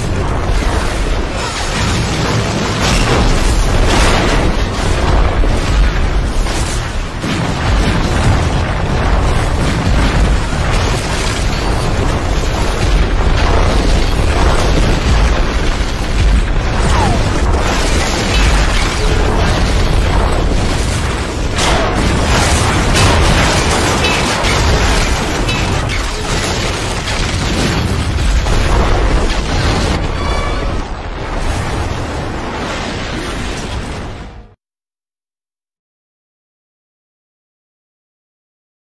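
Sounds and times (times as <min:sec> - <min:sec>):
video game explosions: 0:00.0 - 0:34.6.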